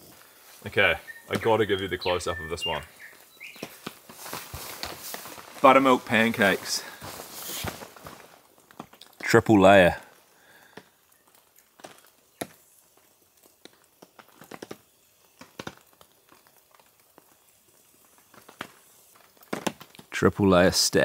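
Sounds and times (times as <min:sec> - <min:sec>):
campfire crackling: 0:00.0 - 0:21.0
sharp fire pops: 0:02.9 - 0:20.6.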